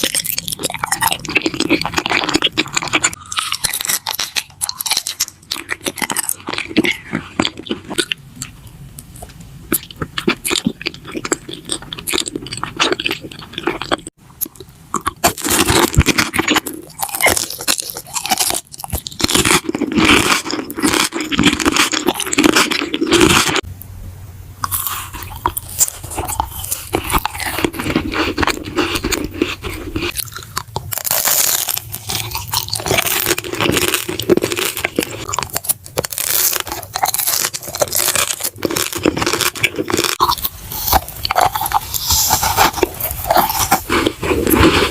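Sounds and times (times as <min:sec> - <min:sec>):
crunchy chewing: 0:00.0 - 0:23.7, 0:24.6 - 0:44.9.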